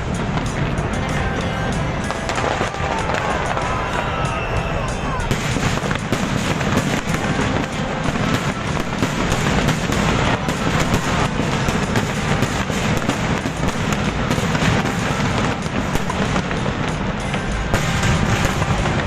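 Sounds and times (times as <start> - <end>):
fireworks crackling bangs: 0.0 - 19.0.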